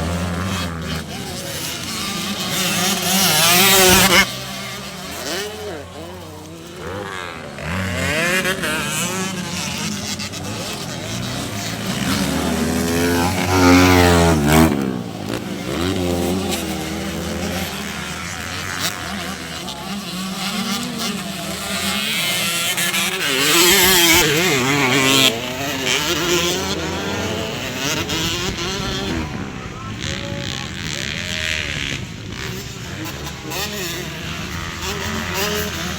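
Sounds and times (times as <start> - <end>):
racing motorcycles revving and passing: 0.0 - 35.9.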